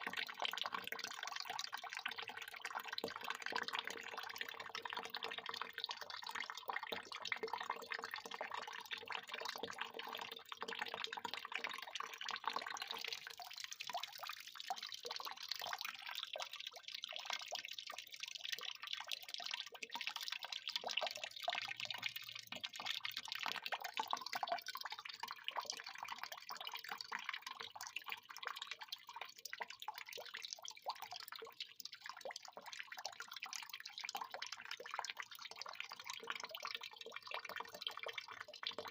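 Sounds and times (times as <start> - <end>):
water pouring and splashing: 0.0 - 32.7, 33.8 - 38.9.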